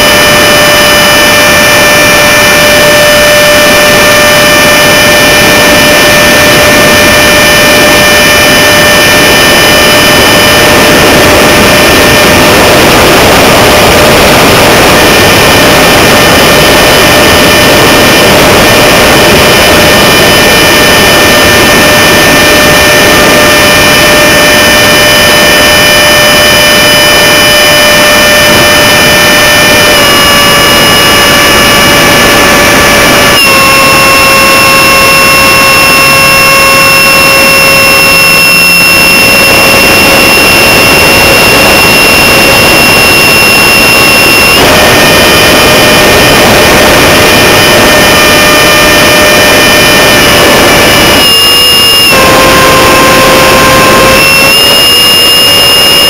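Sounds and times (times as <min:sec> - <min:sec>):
jet engine roar with whine: 0:00.0 - 0:56.0.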